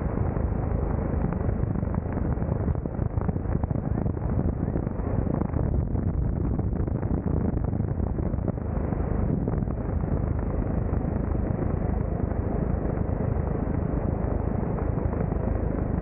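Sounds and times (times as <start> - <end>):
helicopter rotor and engine: 0.0 - 16.0
wind buffeting microphone: 0.0 - 16.0.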